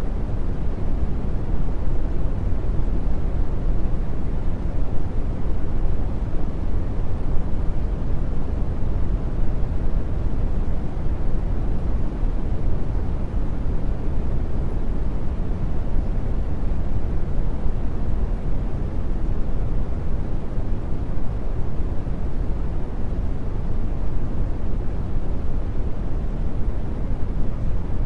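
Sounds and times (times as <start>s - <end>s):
steady brown noise: 0.0s - 28.0s.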